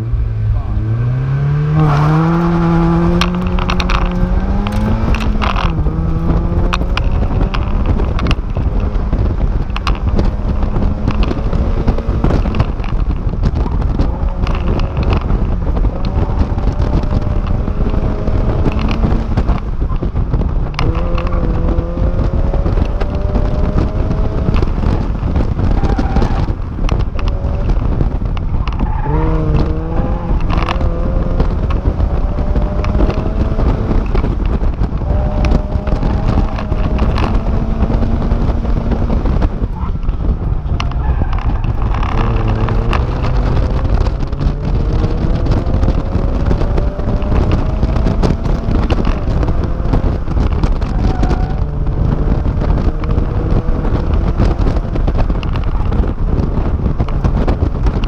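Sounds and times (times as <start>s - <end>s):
road and wind noise: 0.0s - 58.0s
sports car engine revving: 0.0s - 58.0s.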